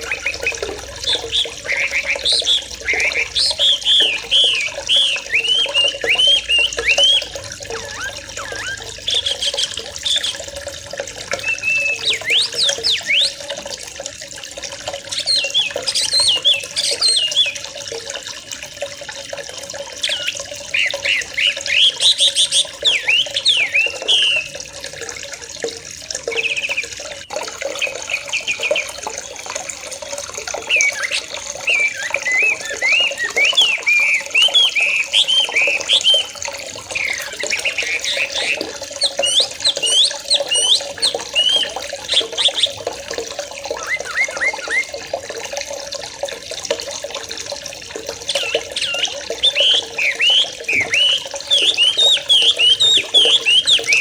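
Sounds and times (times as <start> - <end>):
birds calling and chattering: 0.0 - 25.1, 25.9 - 45.3, 47.6 - 54.0
running water: 0.0 - 54.0.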